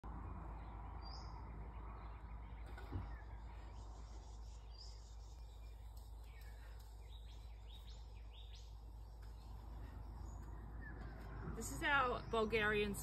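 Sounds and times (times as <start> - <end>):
low background rumble: 0.0 - 13.0
bird chirping: 0.3 - 13.0.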